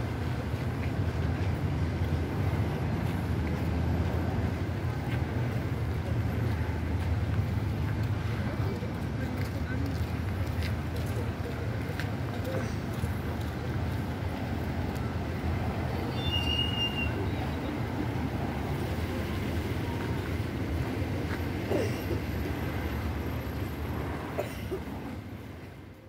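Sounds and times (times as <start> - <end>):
cars and vans driving past: 0.0 - 26.0.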